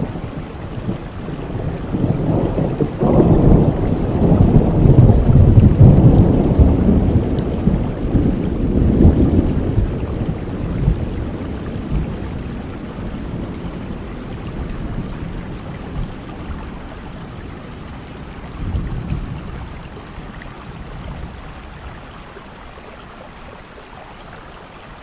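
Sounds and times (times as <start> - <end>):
thunder rumbling: 0.0 - 22.1
steady rain: 0.0 - 25.0.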